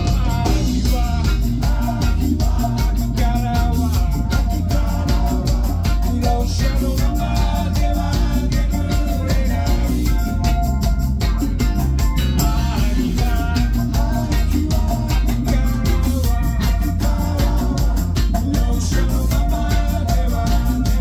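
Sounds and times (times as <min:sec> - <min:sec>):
live band playing: 0:00.0 - 0:21.0
person singing: 0:00.0 - 0:21.0.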